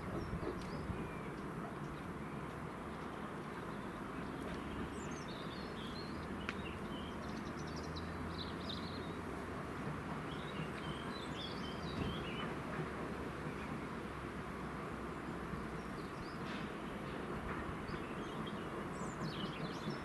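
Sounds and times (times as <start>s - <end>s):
songbirds twittering: 0.0s - 14.1s, 15.1s - 20.0s
distant steam train rumble: 0.0s - 20.0s.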